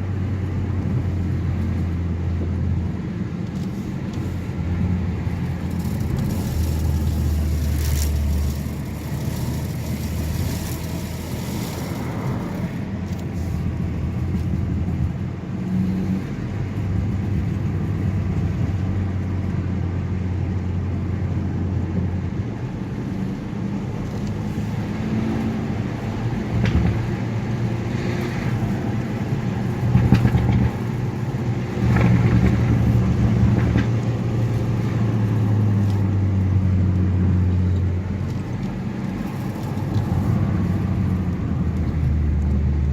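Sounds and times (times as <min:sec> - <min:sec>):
low road rumble: 0:00.0 - 0:42.9.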